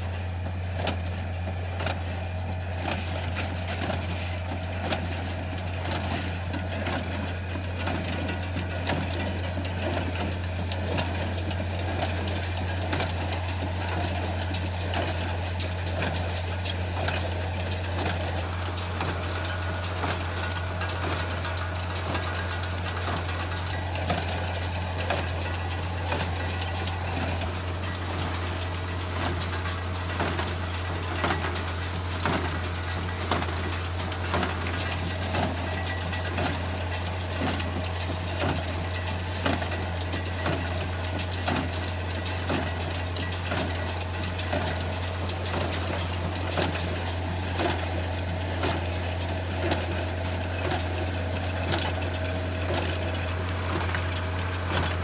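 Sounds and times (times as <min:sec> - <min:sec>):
tractor engine droning: 0:00.0 - 0:55.0
baler mechanical knocking: 0:07.8 - 0:55.0.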